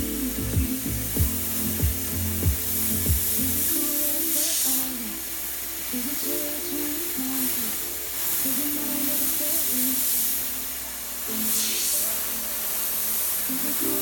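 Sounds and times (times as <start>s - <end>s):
airbrush hissing: 0.0s - 14.0s
background music: 0.0s - 14.0s.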